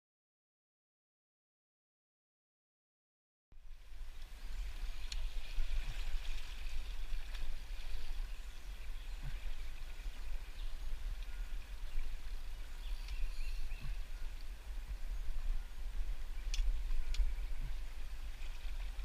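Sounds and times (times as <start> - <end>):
constant low rumble: 3.6 - 19.0.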